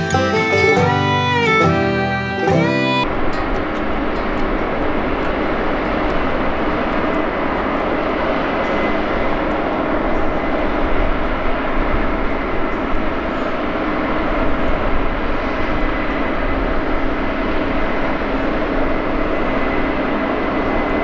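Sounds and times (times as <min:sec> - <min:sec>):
combine harvester machinery drone: 0:00.0 - 0:21.0.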